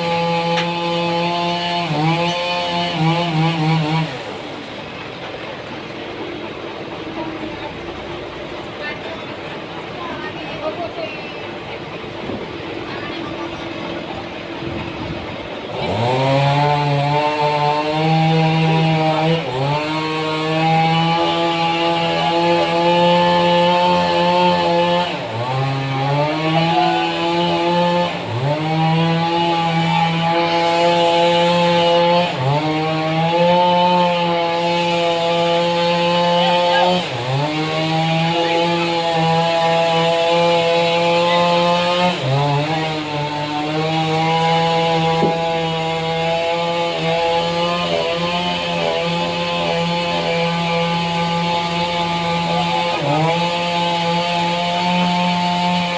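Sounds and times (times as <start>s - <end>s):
engine-driven sawmill saw cutting log: 0.0s - 55.9s.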